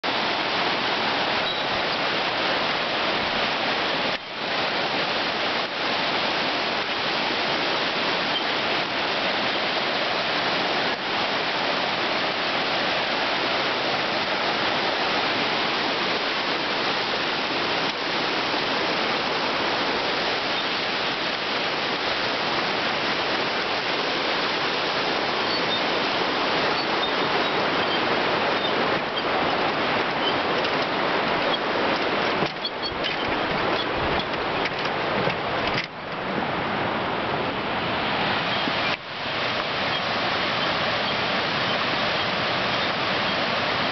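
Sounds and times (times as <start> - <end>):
rushing mountain creek: 0.0 - 43.9.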